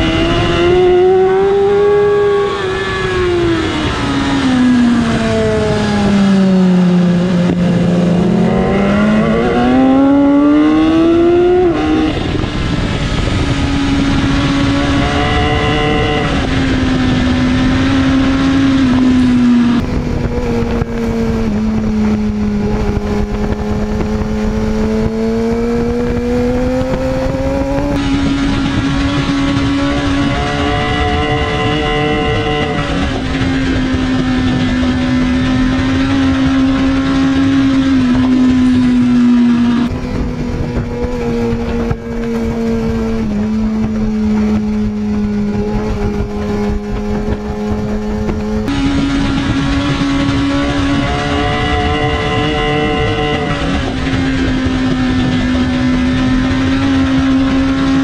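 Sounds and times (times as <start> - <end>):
motorcycle engine at speed: 0.0 - 58.0
wind noise: 0.0 - 58.0.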